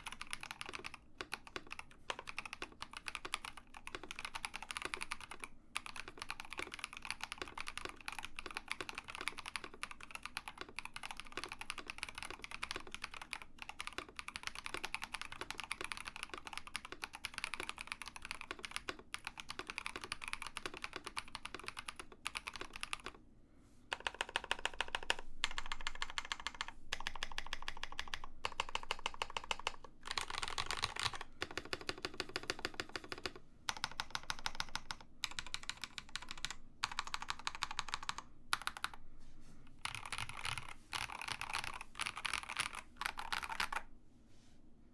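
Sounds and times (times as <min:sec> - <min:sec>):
mechanical keyboard typing: 0:00.0 - 0:23.2, 0:23.9 - 0:39.0, 0:39.8 - 0:43.9.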